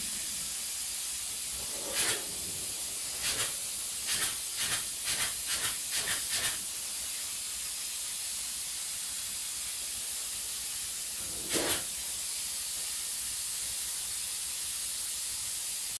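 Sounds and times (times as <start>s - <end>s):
steady high hiss: 0.0s - 15.9s.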